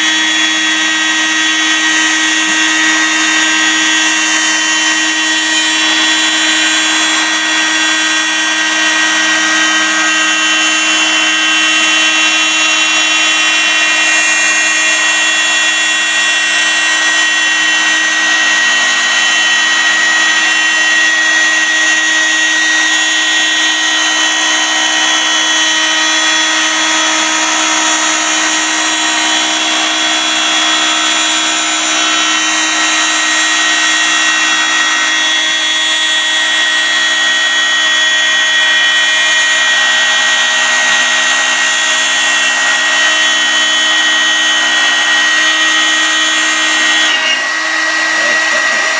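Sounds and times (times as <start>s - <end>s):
cutter routing wood: 0.0s - 48.9s
router spindle whine: 0.0s - 48.9s.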